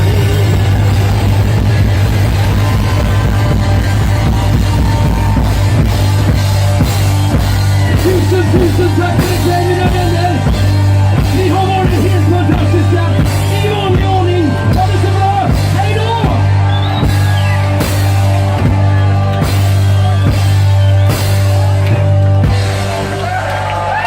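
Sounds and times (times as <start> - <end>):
drum kit steady beat: 0.0 - 23.7
melodic lead line: 0.0 - 23.8
live band music: 0.0 - 24.0.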